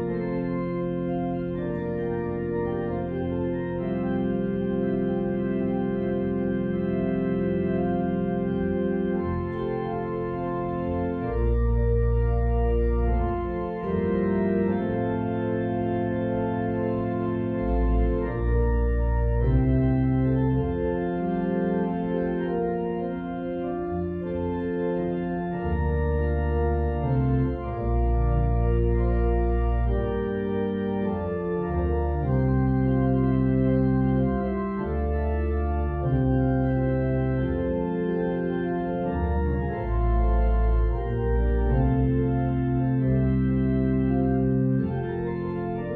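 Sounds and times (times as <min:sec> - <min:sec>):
organ playing slow chords: 0:00.0 - 0:45.9.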